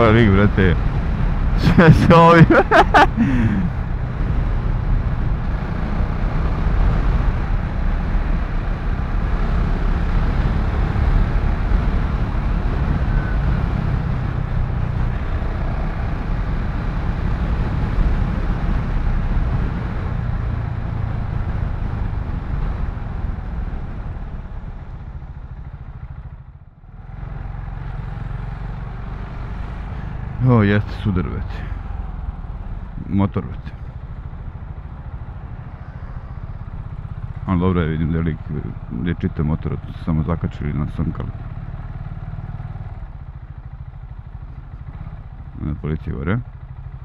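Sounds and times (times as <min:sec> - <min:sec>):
motorcycle engine running: 0:02.7 - 0:30.4, 0:33.7 - 0:45.8, 0:46.4 - 0:47.0.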